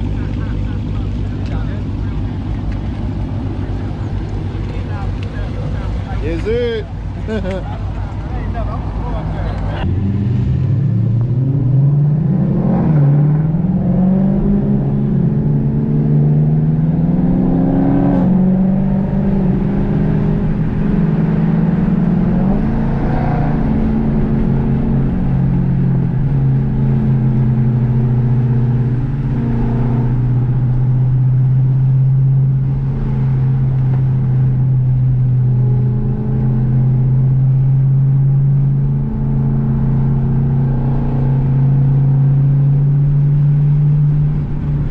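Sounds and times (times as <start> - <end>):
car engine revving and droning: 0.0 - 44.9.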